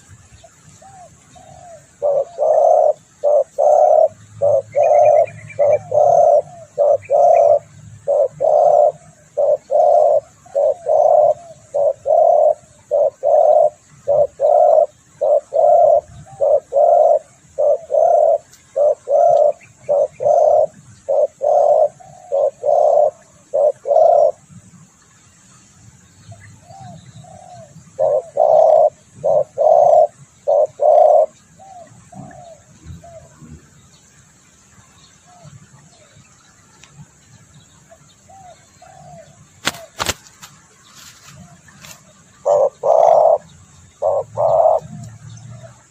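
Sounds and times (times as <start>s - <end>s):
small birds chirping faintly: 0.0s - 45.9s
dove cooing: 0.8s - 24.6s, 26.5s - 33.8s, 37.9s - 45.9s.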